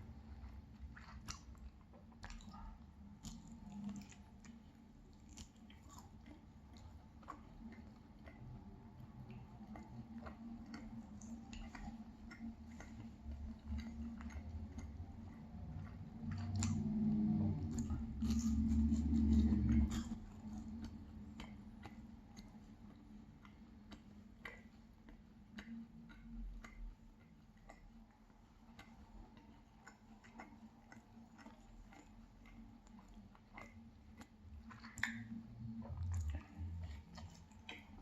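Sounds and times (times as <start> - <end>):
close-up chewing: 0.0 - 38.0.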